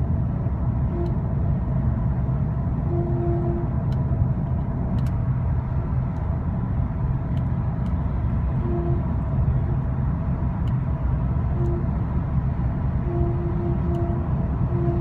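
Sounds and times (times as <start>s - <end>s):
road and engine noise inside car: 0.0s - 15.0s.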